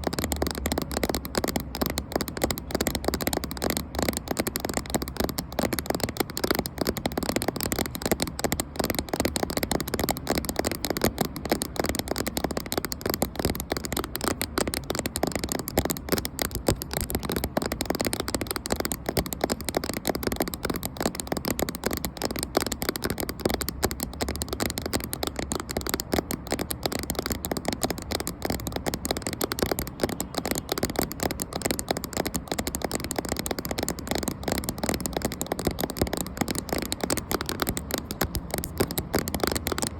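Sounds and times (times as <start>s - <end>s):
fast tapping on microphone: 0.0s - 39.9s.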